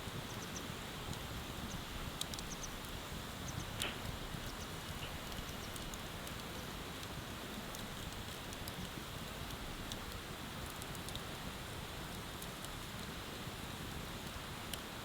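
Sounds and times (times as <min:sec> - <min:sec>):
bonfire crackling and popping: 0:00.3 - 0:14.8.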